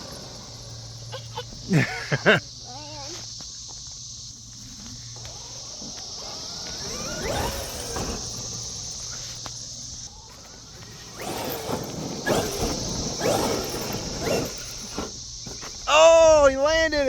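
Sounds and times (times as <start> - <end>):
electric motor whining: 0.0 - 16.4.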